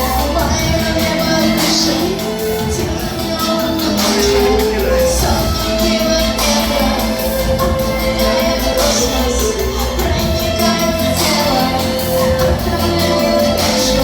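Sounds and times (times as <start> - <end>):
live band music over sound system: 0.0 - 14.0.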